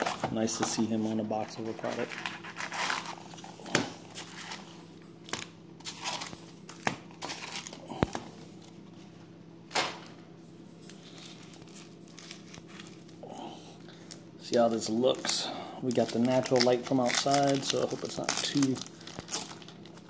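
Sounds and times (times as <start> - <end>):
card packs crinkling: 0.0 - 8.8, 11.1 - 13.3, 13.9 - 20.0.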